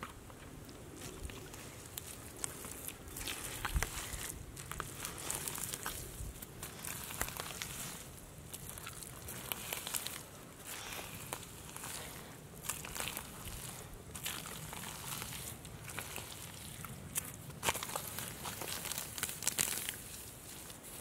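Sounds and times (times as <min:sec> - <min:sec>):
hands digging through wet mud: 0:00.8 - 0:21.0.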